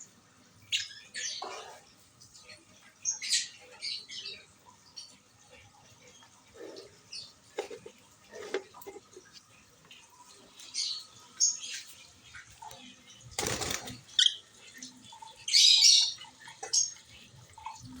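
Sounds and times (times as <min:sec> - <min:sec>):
lovebirds chirping and squawking: 0:00.6 - 0:17.8.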